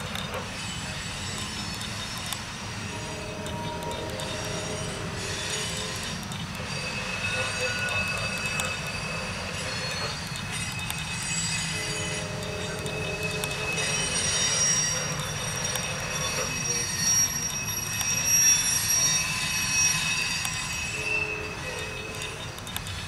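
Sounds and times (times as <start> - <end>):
freight train rumbling past: 0.0 - 23.0
high-pitched wheel squeal: 0.0 - 23.0.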